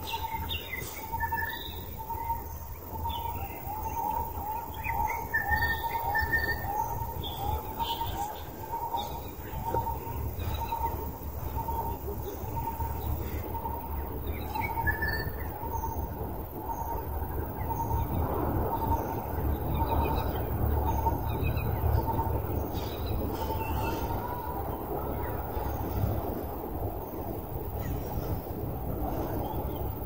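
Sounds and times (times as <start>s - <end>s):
birds chirping: 0.0s - 30.0s
low steady rumble: 0.0s - 30.0s.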